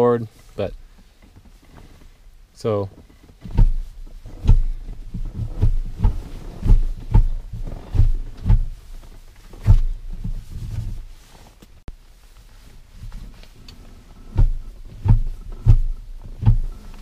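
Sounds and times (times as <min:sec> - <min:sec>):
dull low thumps: 0:00.4 - 0:17.0.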